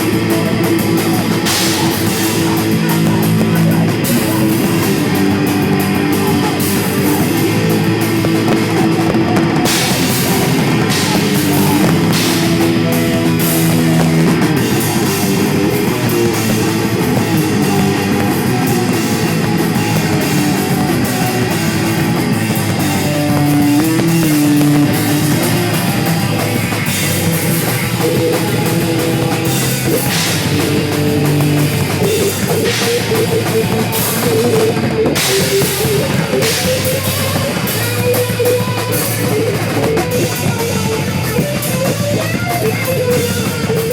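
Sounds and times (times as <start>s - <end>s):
drum kit crashing cymbals: 0.0s - 43.9s
heavy metal band playing: 0.0s - 43.9s.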